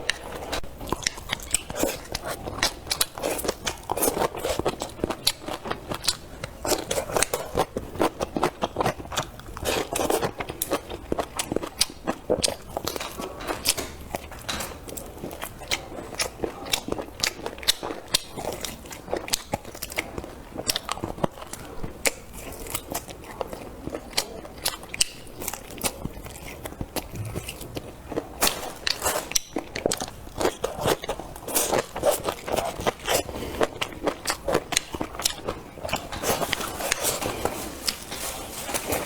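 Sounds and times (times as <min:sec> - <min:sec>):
person chewing crunchy food: 0:00.0 - 0:39.0.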